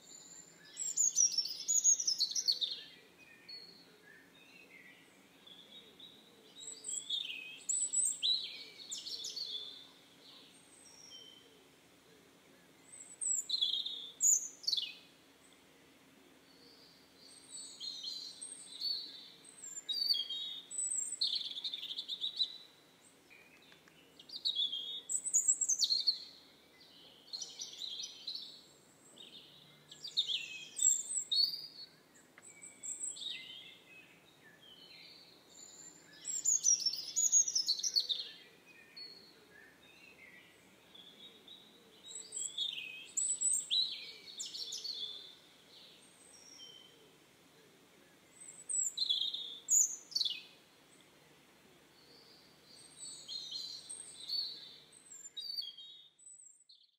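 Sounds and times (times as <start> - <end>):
faint steady background noise: 0.0 - 56.9
songbirds singing: 0.0 - 56.9.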